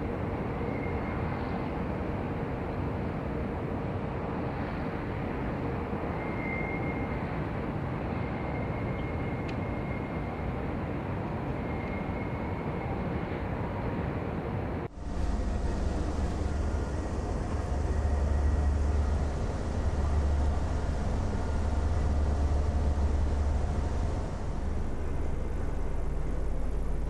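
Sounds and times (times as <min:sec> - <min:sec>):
airship engines and propellers droning: 0:00.0 - 0:27.0
faint high whine: 0:00.0 - 0:27.0.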